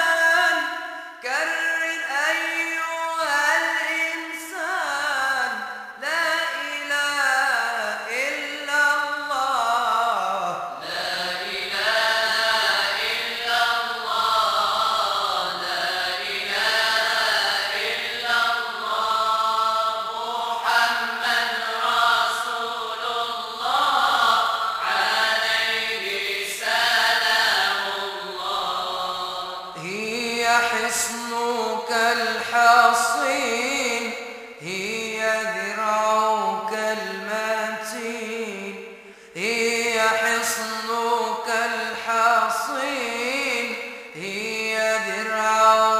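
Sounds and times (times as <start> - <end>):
voices chanting devotional song: 0.0 - 45.9.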